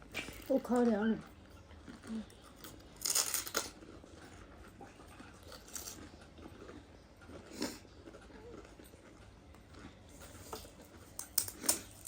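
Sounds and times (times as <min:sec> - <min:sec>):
crisp shells being chewed: 0:00.0 - 0:12.0.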